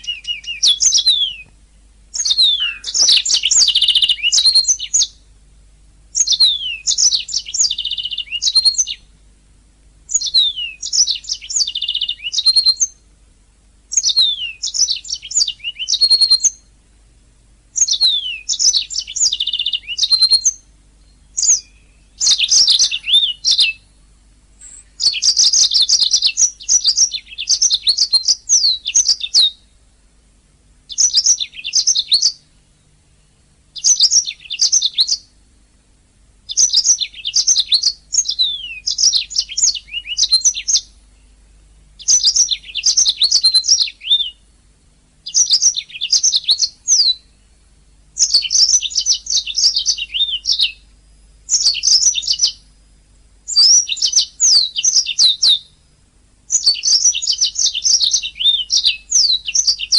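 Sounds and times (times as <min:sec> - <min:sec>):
canary singing trills: 0:00.0 - 0:05.3, 0:06.1 - 0:09.2, 0:10.1 - 0:13.2, 0:13.9 - 0:16.8, 0:17.7 - 0:29.9, 0:30.8 - 0:35.4, 0:36.4 - 0:44.6, 0:45.2 - 0:59.9.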